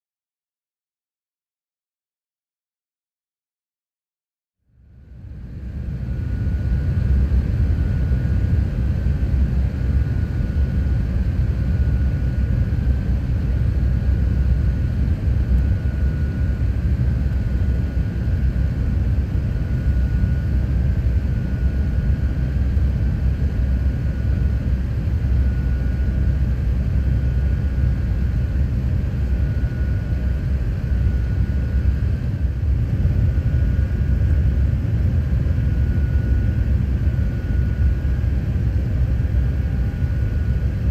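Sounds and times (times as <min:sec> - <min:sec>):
airliner cabin rumble: 0:05.0 - 0:40.9.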